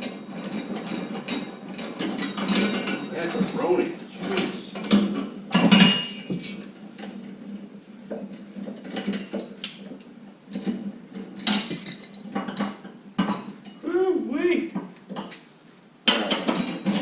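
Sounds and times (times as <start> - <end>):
metal clatter: 0.0 - 13.8, 15.1 - 17.0.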